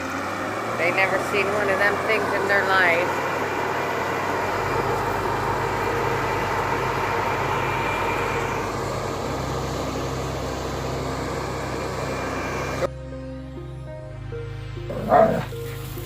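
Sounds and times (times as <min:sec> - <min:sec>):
combine harvester droning: 0:00.0 - 0:16.0.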